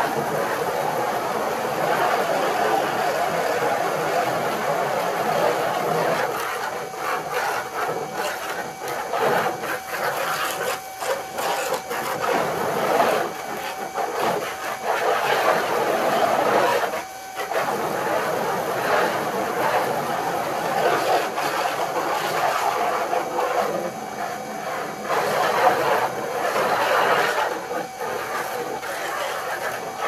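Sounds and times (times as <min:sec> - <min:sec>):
pressure washer jet hissing: 0:00.0 - 0:30.0
pressure washer motor hum: 0:00.0 - 0:30.0.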